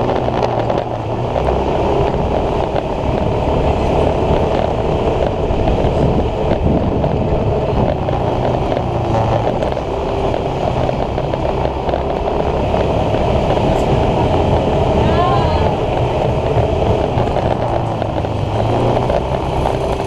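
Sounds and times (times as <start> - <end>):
motor scooter running: 0.0 - 20.0
road noise: 0.0 - 20.0
wind rush: 0.0 - 20.0.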